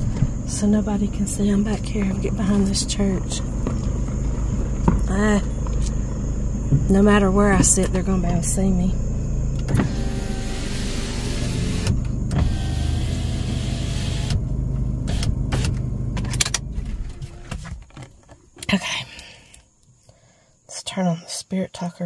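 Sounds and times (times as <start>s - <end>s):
faint whine: 0.0s - 17.8s
car engine running: 0.0s - 18.8s.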